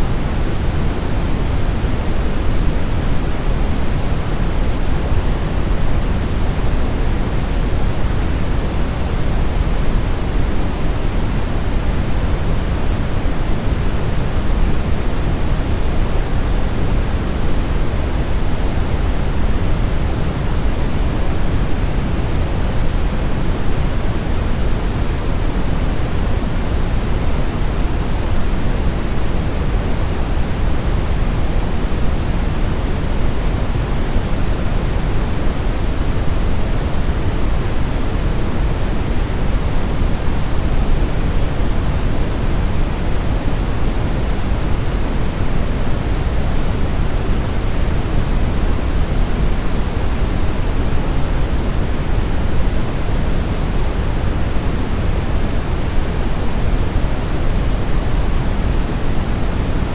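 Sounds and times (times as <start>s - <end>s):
steady brown noise: 0.0s - 59.9s.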